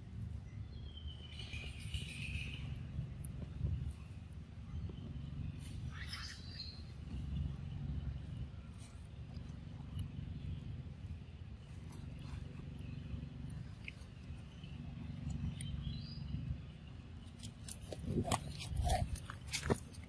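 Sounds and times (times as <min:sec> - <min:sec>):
low rumble: 0:00.0 - 0:19.5.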